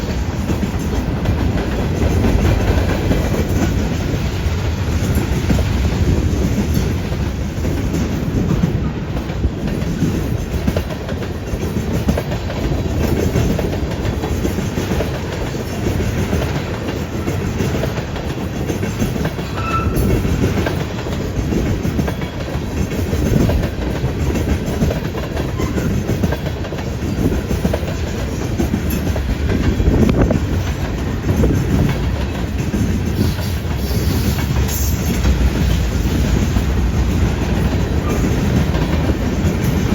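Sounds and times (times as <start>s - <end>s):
freight train rumbling past: 0.0s - 39.9s
train wheels clacking on track: 0.0s - 39.9s.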